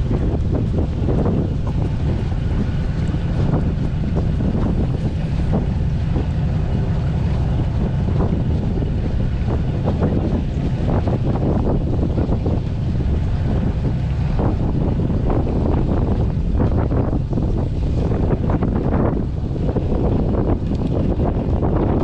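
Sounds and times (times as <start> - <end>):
steady low rumble: 0.0 - 22.0
wind buffeting microphone: 0.0 - 22.0.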